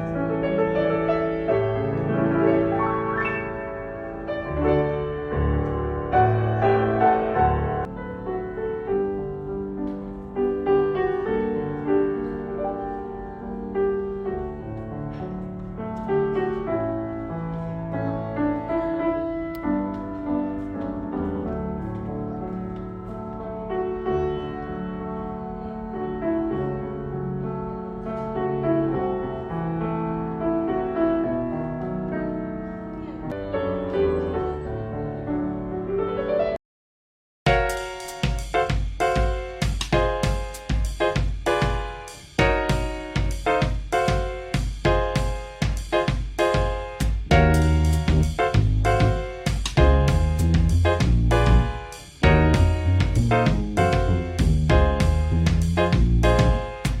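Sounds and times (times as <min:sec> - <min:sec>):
calm classical piano music: 0:00.0 - 0:36.6, 0:37.5 - 0:57.0.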